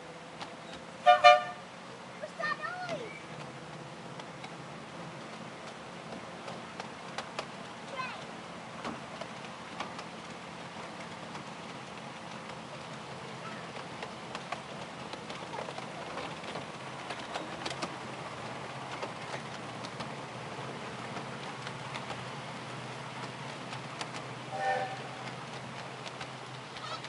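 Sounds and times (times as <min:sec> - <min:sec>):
miniature train humming and hissing: 0:00.0 - 0:27.0
wheels clicking on track: 0:00.0 - 0:27.0.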